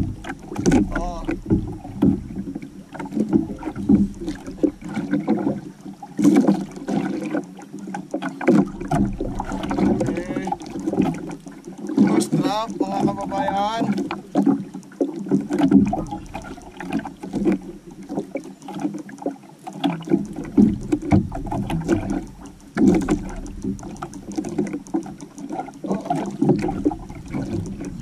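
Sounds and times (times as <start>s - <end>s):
small irregular knocks: 0.0s - 28.0s
water sloshing against canoe hull: 0.0s - 28.0s.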